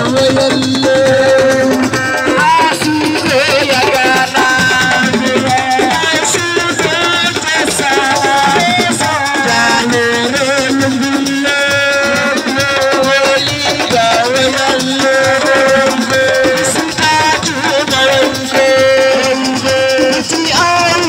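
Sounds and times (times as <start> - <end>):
percussion: 0.0 - 21.0
shaker rattling: 0.0 - 21.0.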